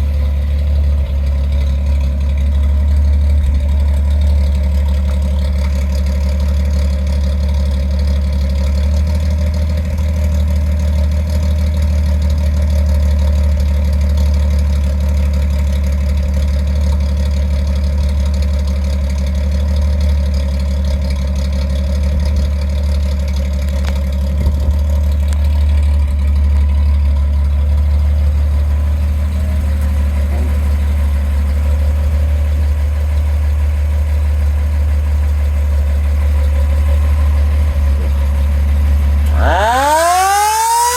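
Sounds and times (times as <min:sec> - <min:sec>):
fire truck engine idling: 0:00.0 - 0:40.9.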